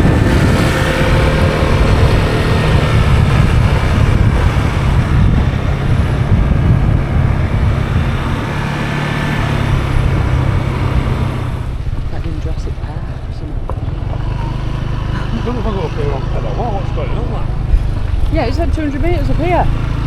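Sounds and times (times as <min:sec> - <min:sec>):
wind noise on microphone: 0:00.0 - 0:15.4, 0:16.2 - 0:20.0
motor scooter engine running: 0:00.0 - 0:20.0.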